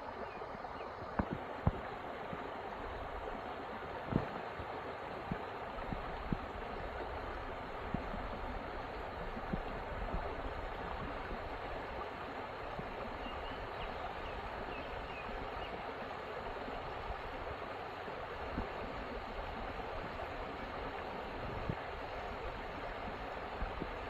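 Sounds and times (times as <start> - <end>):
creek water flowing over rocks: 0.0 - 24.0.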